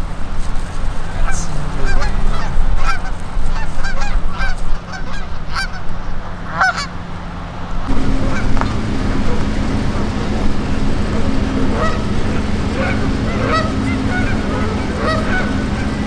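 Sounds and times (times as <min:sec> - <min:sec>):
geese honking: 0:00.0 - 0:16.0
steady low rumble: 0:00.0 - 0:16.0.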